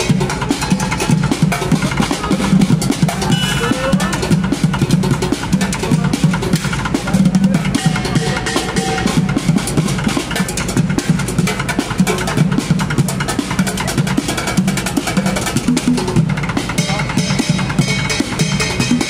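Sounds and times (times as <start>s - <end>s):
drumming on buckets and pots: 0.0s - 19.0s.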